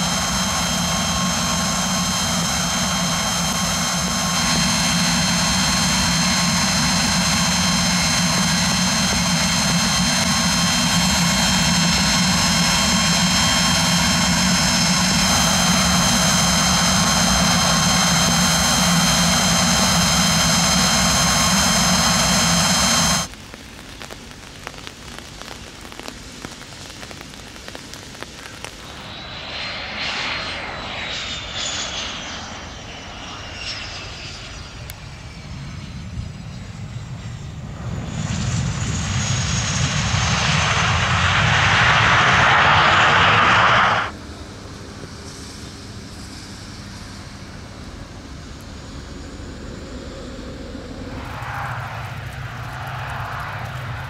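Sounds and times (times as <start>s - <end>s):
distant jet passing on runway: 0.0s - 23.3s, 28.4s - 45.6s, 49.4s - 54.0s
jet turbofans whining: 0.0s - 23.4s, 26.6s - 54.0s.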